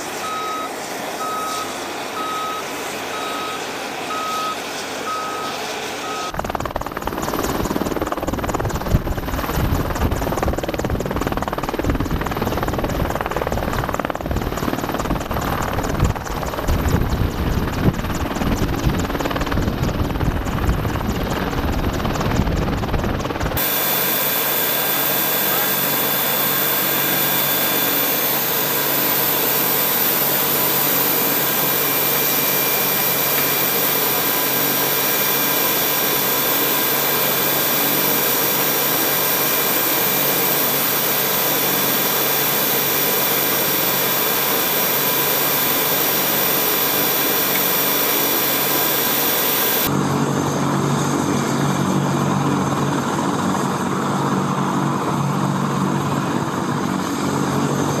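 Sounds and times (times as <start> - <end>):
helicopter engines whining: 0.0 - 58.0
helicopter rotor in flight: 0.0 - 58.0.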